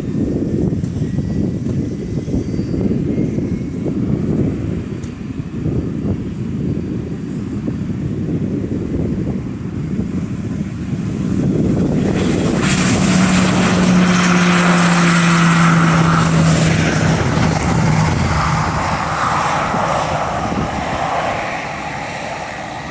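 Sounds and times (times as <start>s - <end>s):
propeller airplane flying by: 0.0s - 22.9s.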